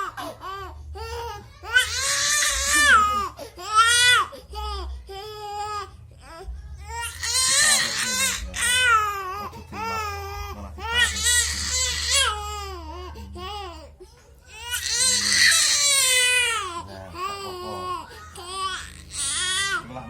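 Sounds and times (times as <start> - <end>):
baby crying: 0.0 - 20.0.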